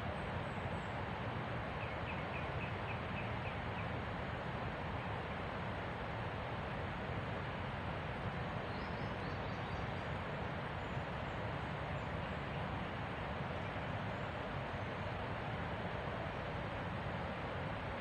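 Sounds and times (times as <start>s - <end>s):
rushing outdoor ambience: 0.0s - 18.0s.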